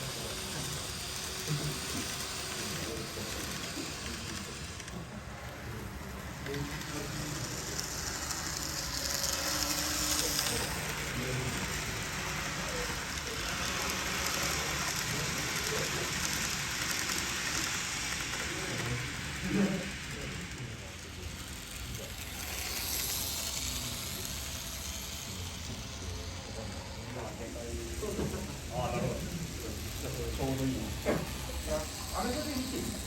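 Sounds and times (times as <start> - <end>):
faint voices: 0.0 - 33.0
model train wheels and motor hiss: 0.0 - 33.0.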